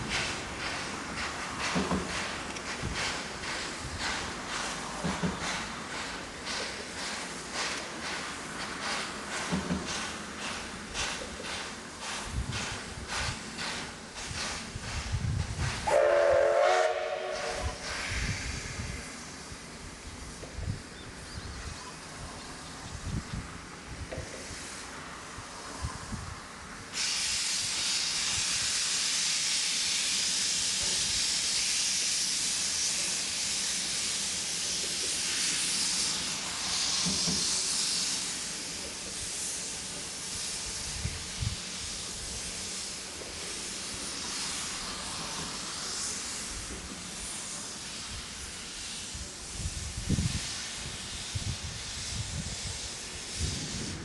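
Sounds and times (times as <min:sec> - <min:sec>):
locomotive venting steam: 0:00.0 - 0:54.0.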